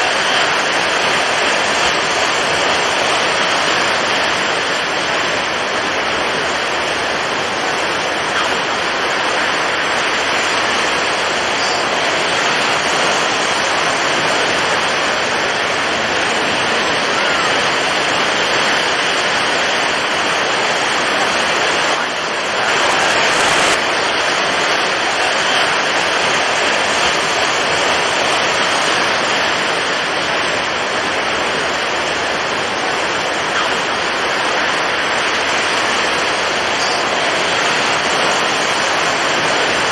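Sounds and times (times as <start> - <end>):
heavy waves: 0.0 - 39.9
strong wind: 0.0 - 39.9.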